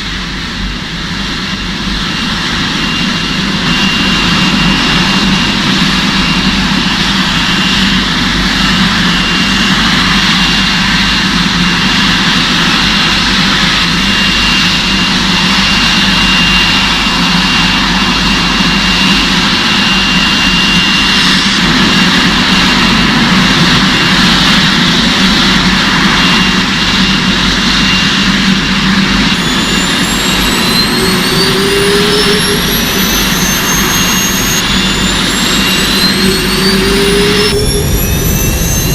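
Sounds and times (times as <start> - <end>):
motor running with high whine: 0.1 - 38.9.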